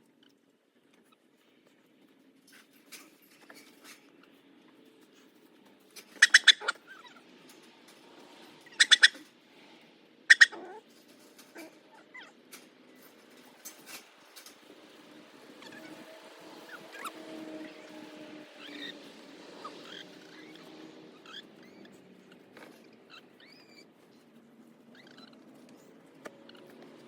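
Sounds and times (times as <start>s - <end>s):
faint clicks and scratching: 0.0s - 10.0s, 10.6s - 27.0s.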